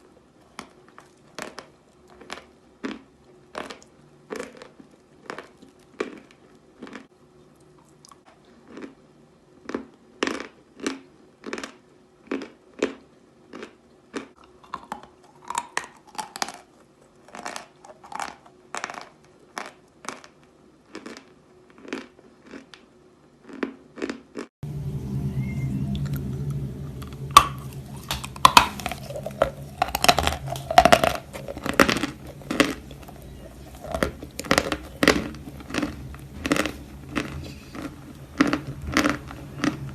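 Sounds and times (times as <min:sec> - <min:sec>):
steady low hum: 0:00.0 - 0:39.9
chalk crunched and chewed: 0:00.4 - 0:09.0, 0:09.6 - 0:24.5, 0:27.0 - 0:39.9.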